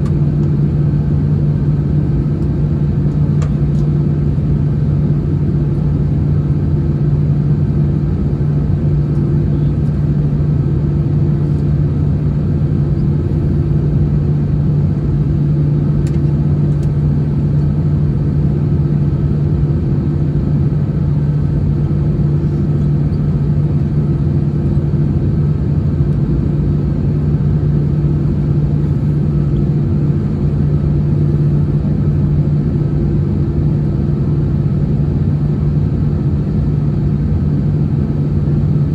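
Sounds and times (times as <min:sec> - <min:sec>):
jet engines rumbling in aircraft cabin: 0:00.0 - 0:38.9.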